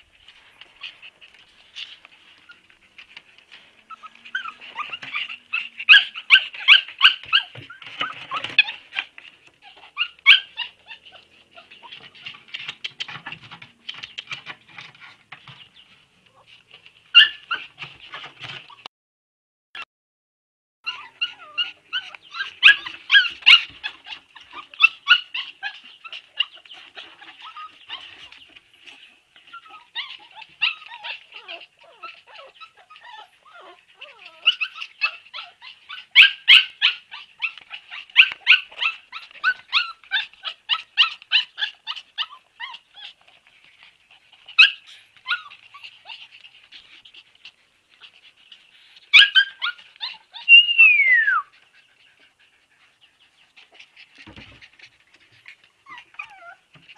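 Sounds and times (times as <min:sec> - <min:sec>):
puppies high-pitched calls: 0:00.3 - 0:18.9, 0:20.8 - 0:56.9.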